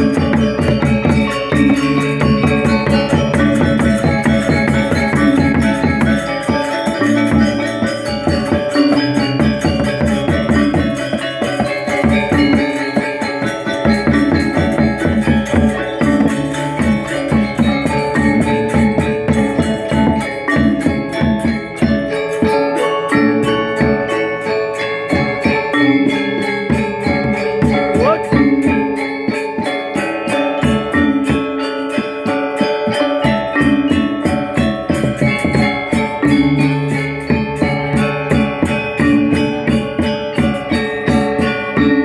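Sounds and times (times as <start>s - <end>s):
gamelan gong ensemble playing: 0.0s - 42.0s.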